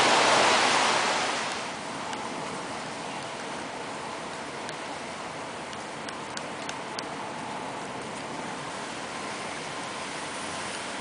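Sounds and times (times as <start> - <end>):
rain on a wet table: 0.0 - 11.0.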